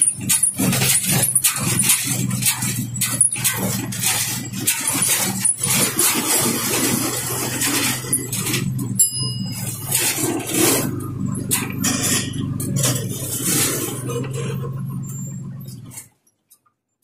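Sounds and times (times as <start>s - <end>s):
bus diesel engine humming: 0.0s - 16.1s.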